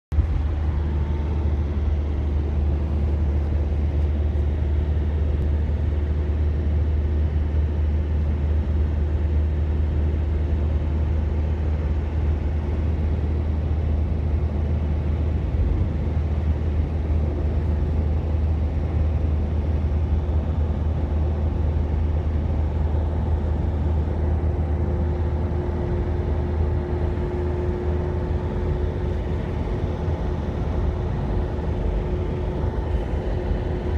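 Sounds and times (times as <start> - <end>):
low engine-like drone: 0.1 - 33.9.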